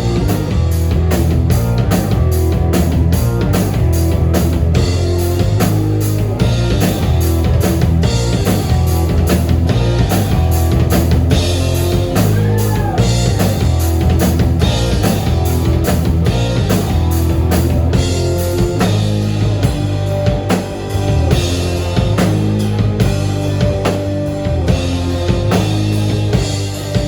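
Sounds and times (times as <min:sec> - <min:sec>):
bass guitar: 0:00.0 - 0:27.0
drum kit steady beat: 0:00.0 - 0:27.0
electric guitar: 0:00.0 - 0:27.0.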